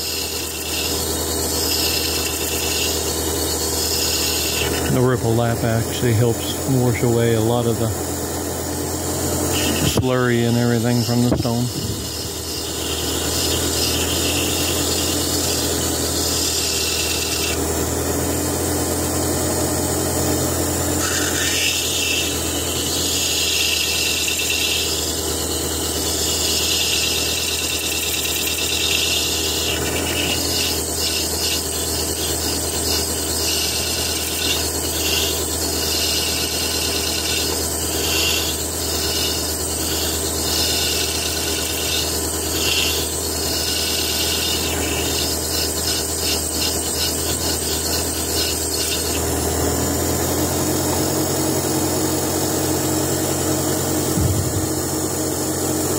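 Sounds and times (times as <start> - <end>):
stone scraping on spinning lap: 0.0 - 7.8, 8.8 - 17.7, 21.0 - 49.5
low motor hum: 0.0 - 55.9.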